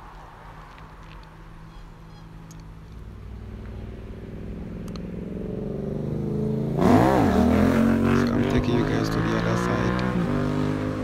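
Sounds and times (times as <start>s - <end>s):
road noise: 0.0s - 11.0s
vehicle engine passing: 0.0s - 11.0s.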